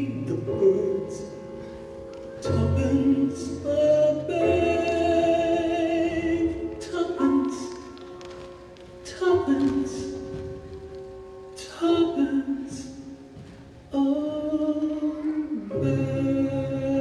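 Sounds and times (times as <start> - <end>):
slow vocal ballad: 0.0 - 8.3, 8.9 - 10.8, 11.5 - 17.0.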